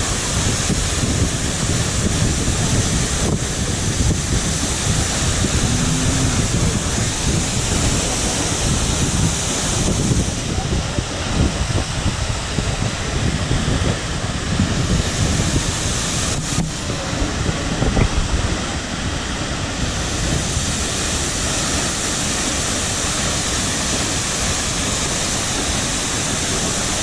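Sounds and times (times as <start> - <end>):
waterfall rushing: 0.0 - 27.0
wind buffeting microphone: 0.0 - 27.0.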